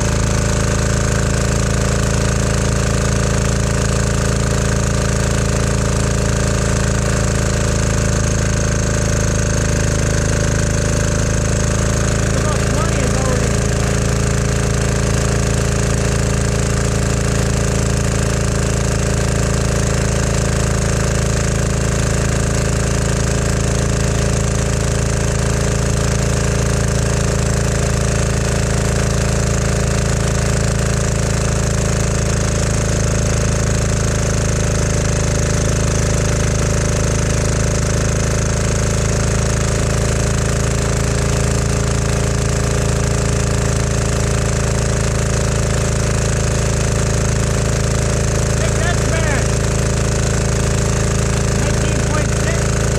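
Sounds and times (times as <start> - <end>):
diesel generator running: 0.0 - 52.9.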